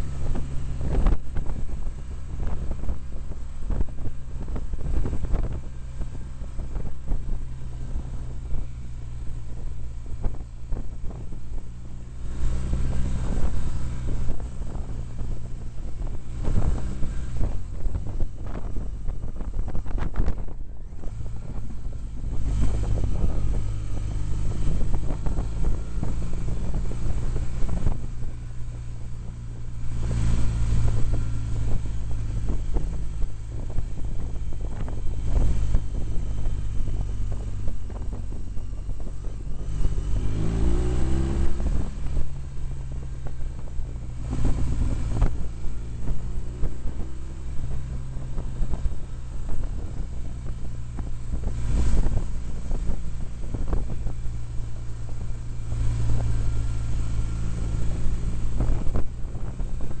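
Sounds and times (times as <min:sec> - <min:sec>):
motorcycle engine running: 0:00.0 - 1:00.0
wind buffeting microphone: 0:00.0 - 1:00.0.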